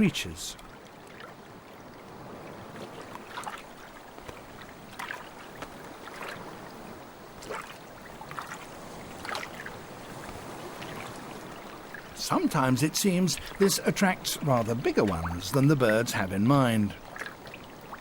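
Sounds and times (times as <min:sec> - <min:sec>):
birds pattering feet on water: 0:00.0 - 0:18.0
sea water lapping: 0:00.0 - 0:18.0.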